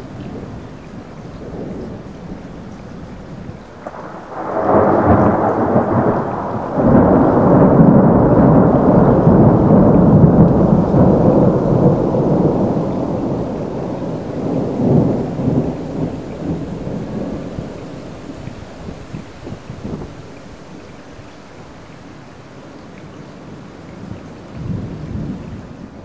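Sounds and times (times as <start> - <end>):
thunder rumbling: 0.0 - 22.6, 23.2 - 26.0.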